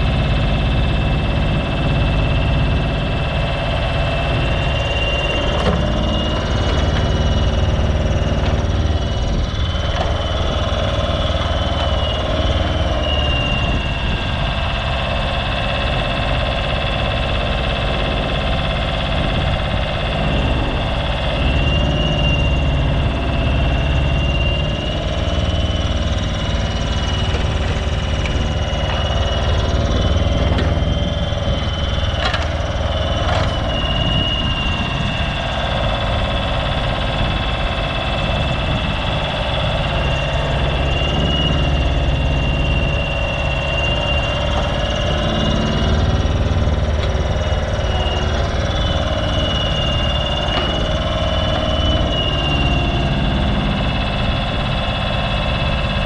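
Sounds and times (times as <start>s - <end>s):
digger engine running: 0.0s - 56.0s
hydraulic whine: 0.0s - 56.0s.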